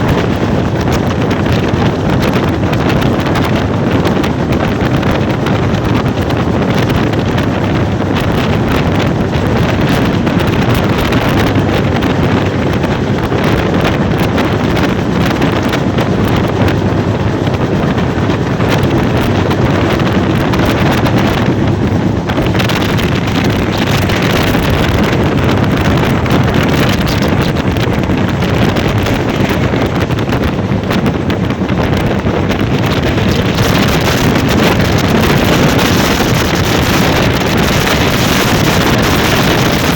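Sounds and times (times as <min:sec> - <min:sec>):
train rumble: 0:00.0 - 0:39.9
wind buffeting microphone: 0:00.0 - 0:39.9.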